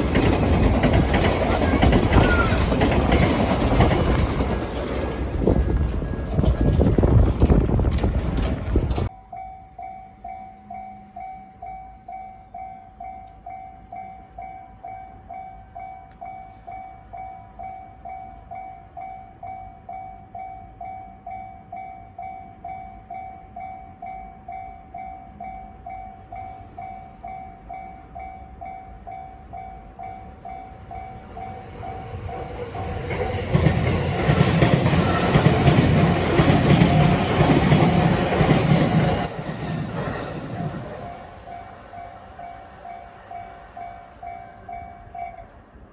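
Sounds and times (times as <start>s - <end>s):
railway crossing alarm ringing: 0.0s - 6.4s, 9.1s - 45.9s
train passing loudly: 0.0s - 9.1s, 12.5s - 45.9s.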